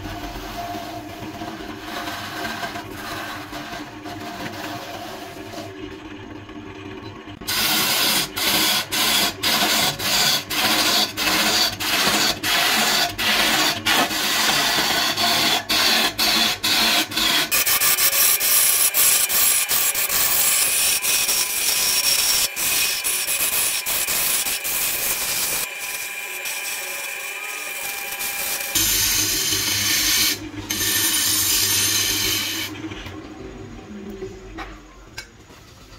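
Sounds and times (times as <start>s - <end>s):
lathe tool scraping wood: 0.0s - 6.0s, 7.4s - 33.2s.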